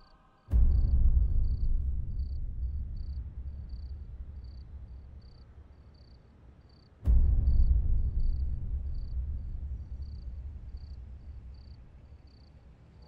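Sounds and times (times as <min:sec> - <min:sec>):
crickets chirping: 0:00.0 - 0:13.0
low bass rumble: 0:00.5 - 0:05.8, 0:07.1 - 0:12.6
deep boom: 0:00.5 - 0:06.0, 0:07.0 - 0:12.7.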